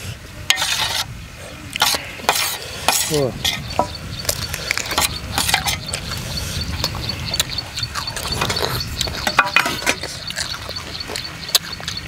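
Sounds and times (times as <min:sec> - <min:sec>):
mouths chewing and slurping noodles: 0:01.7 - 0:12.0.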